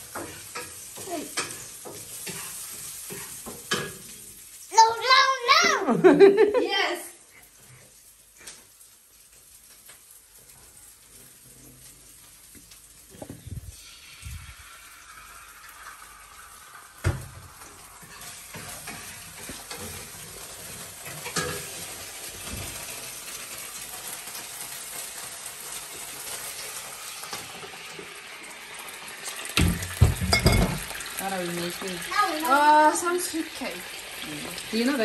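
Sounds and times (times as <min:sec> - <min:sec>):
vegetables sizzling in frying pan: 0:00.0 - 0:35.0.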